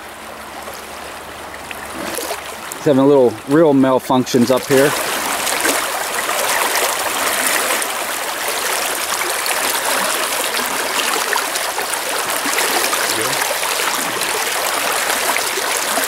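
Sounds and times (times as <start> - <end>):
river riffle rushing: 0.0 - 16.0.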